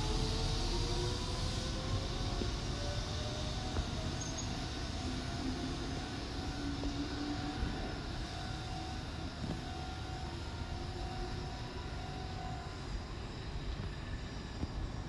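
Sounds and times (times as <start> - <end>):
train motor whine: 0.0 - 15.0
train wheels rumbling on rail: 0.0 - 15.0.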